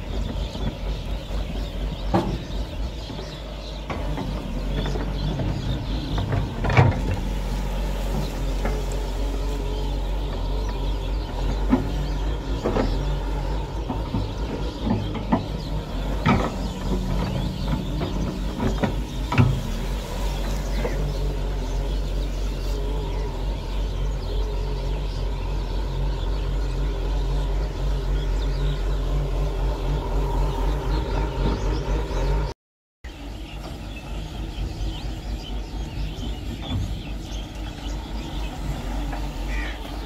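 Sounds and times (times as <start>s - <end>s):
excavator diesel engine running: 0.0s - 32.5s, 33.1s - 40.0s.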